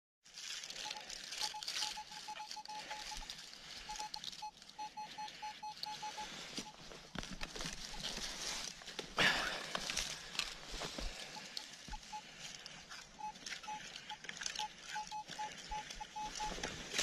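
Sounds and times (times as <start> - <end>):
rustling and scraping: 0.3 - 17.0
metal detector beeping: 0.7 - 8.7, 10.5 - 17.0.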